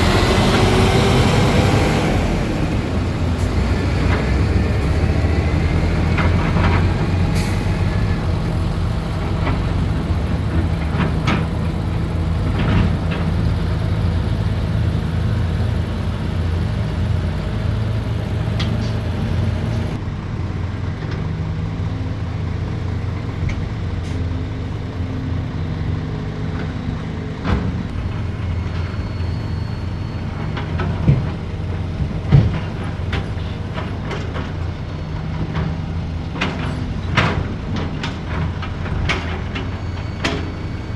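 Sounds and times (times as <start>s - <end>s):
heavy diesel machinery droning: 0.0s - 40.9s.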